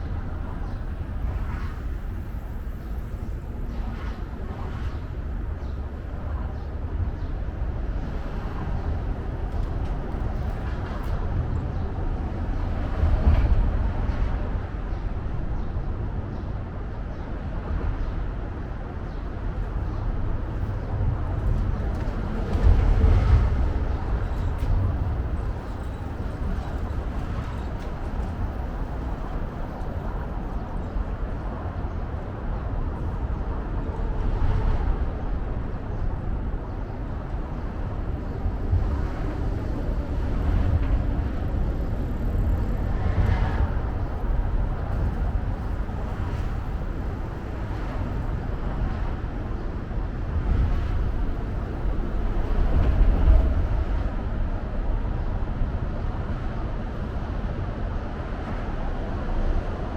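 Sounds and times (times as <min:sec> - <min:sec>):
road traffic hum: 0:00.0 - 0:59.9.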